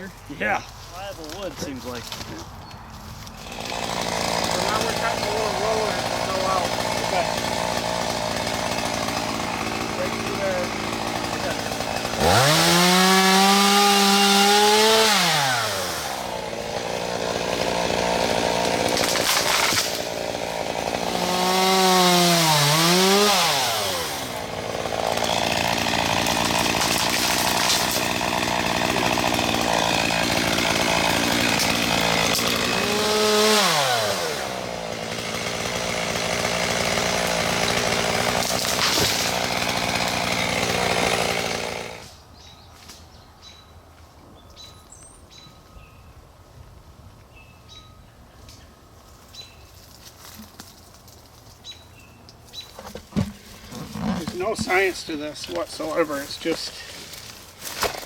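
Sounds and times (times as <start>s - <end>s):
chainsaw revving and cutting wood: 0.0s - 42.2s, 52.6s - 58.0s.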